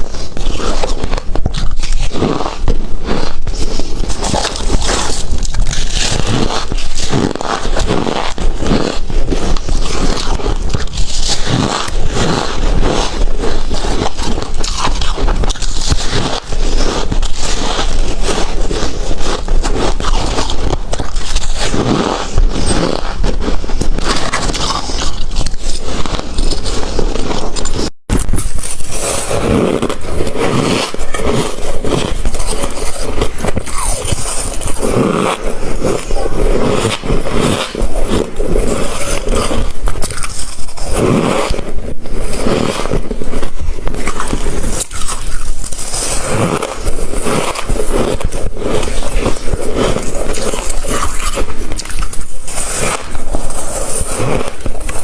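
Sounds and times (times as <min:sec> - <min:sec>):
ice being chewed: 0:00.0 - 0:55.0.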